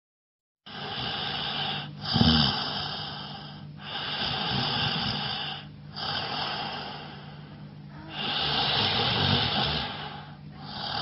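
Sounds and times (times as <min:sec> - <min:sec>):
man snoring: 0:00.7 - 0:07.4, 0:08.0 - 0:11.0.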